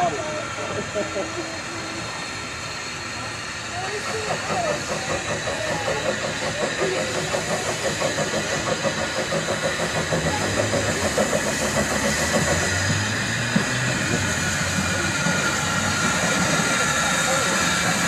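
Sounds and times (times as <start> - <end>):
steam hiss and low rumble: 0.0 - 18.0
steam locomotive chuffing: 0.0 - 18.0.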